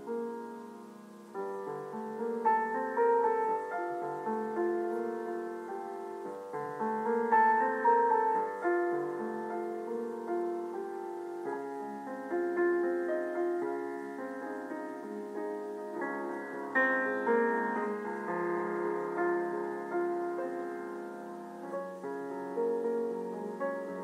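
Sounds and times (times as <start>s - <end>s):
gentle piano music: 0.0s - 24.0s.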